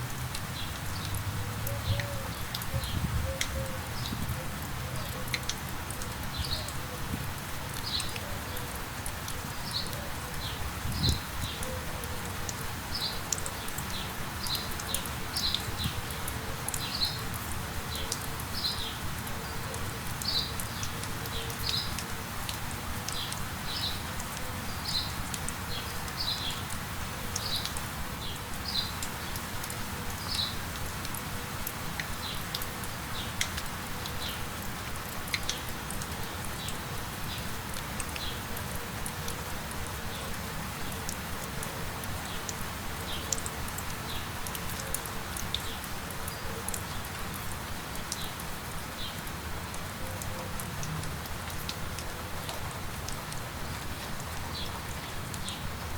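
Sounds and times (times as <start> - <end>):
rain hiss: 0.0 - 55.9.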